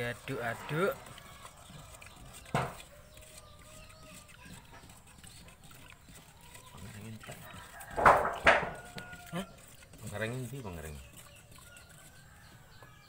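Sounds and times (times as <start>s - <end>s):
faint chicken calls: 0.3s - 13.0s.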